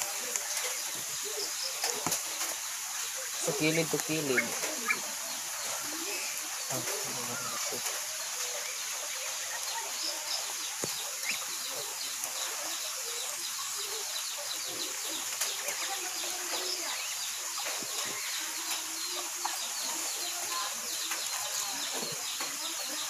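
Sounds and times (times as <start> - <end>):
small birds chirping: 0.0 - 23.0
steady high-pitched hiss: 0.0 - 23.0.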